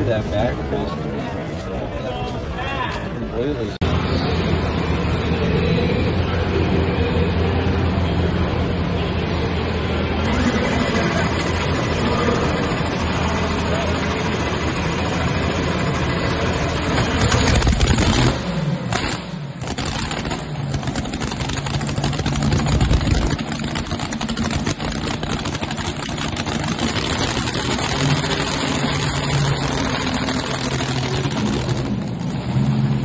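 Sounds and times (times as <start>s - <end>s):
tractor engine idling and revving: 3.8s - 33.0s.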